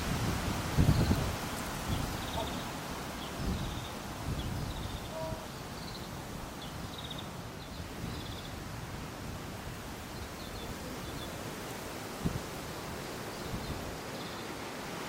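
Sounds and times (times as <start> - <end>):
wind buffeting microphone: 0.0 - 14.1
wind gusting through trees: 0.0 - 15.0.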